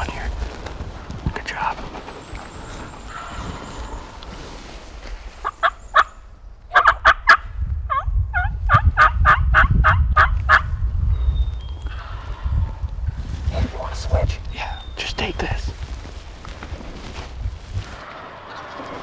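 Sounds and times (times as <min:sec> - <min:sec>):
wild turkey calling: 0:00.0 - 0:08.0, 0:09.0 - 0:19.0
wind rumble on microphone: 0:00.0 - 0:19.0.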